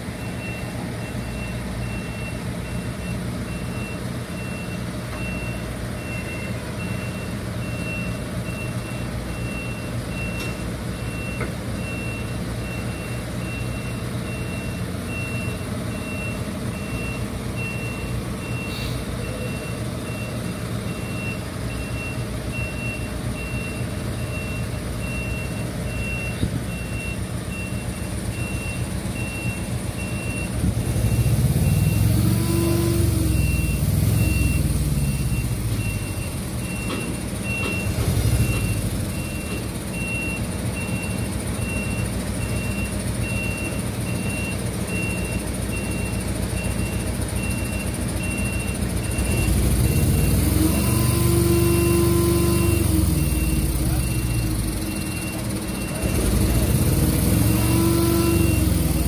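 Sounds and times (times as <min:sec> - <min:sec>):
truck engine running: 0:00.0 - 0:59.0
truck reversing alarm beeping: 0:00.0 - 0:59.0.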